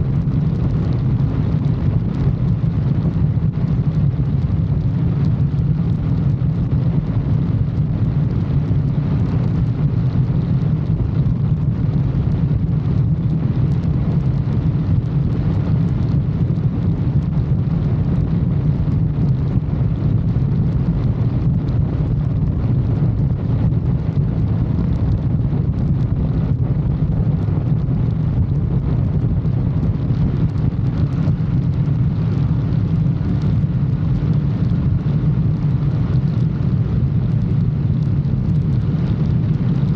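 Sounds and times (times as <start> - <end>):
motorcycle engine drone: 0.0 - 39.9
wind noise on microphone: 0.0 - 39.9.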